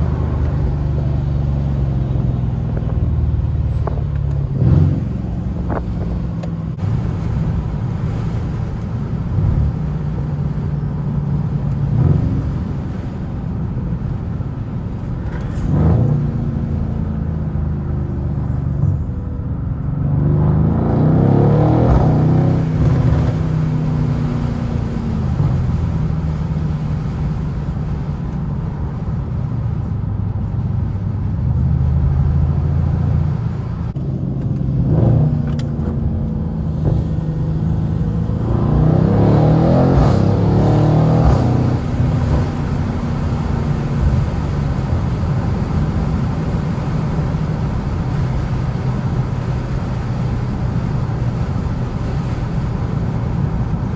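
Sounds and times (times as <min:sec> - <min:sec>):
car engine and exhaust: 0:00.0 - 0:53.9
engine revving under acceleration: 0:00.0 - 0:53.9.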